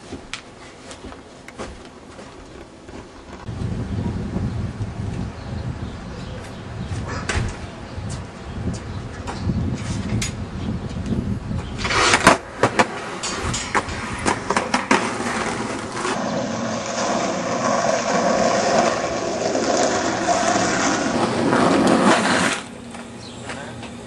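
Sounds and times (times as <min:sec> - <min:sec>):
skateboard wheels rolling on asphalt: 0:01.3 - 0:05.9, 0:07.6 - 0:23.2.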